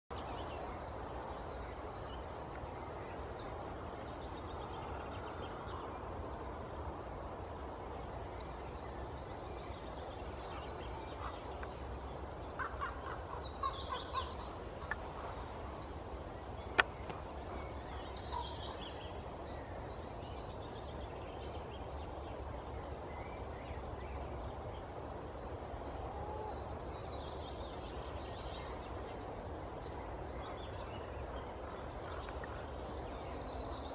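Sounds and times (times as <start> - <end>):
songbirds trilling: 0.2 - 33.9.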